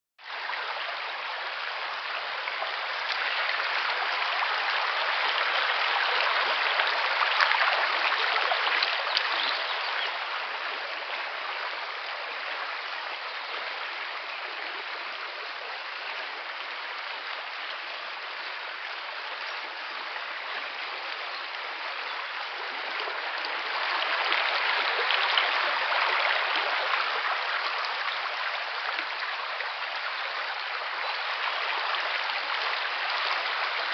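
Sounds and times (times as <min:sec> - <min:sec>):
river water rushing over stones: 0:00.2 - 0:33.9.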